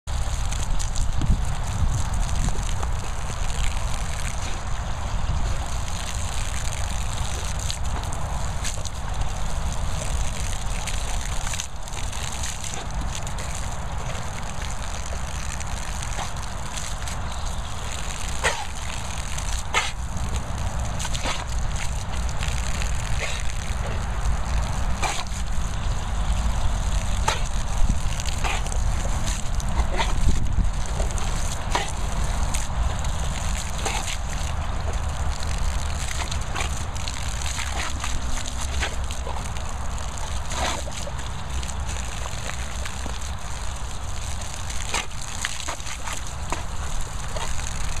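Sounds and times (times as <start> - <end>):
dog snapping at water: 2.1 - 4.6, 5.6 - 25.8, 26.8 - 48.0.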